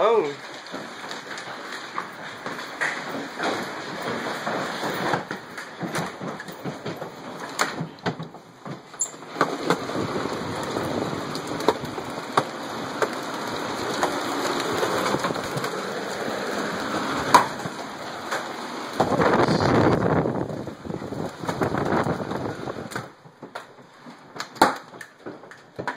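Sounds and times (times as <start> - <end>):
hailstone impacts: 0.0 - 25.8
hail pounding down: 0.0 - 25.9.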